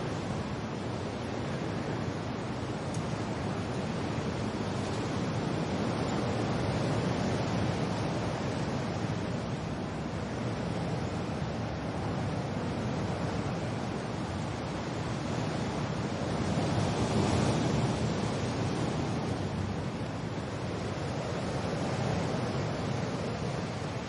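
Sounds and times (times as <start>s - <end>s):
wind and rain rushing: 0.0s - 24.0s.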